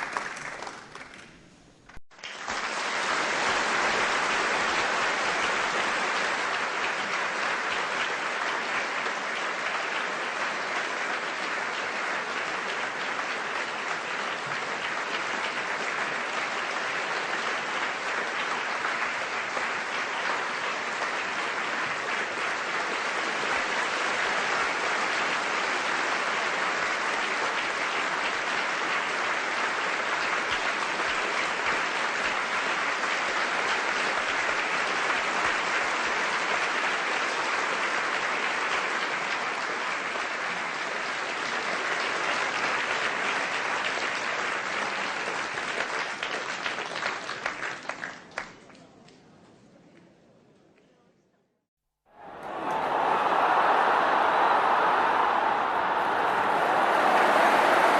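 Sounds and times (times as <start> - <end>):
audience applauding: 0.0 - 1.3, 1.9 - 48.6, 52.1 - 57.9.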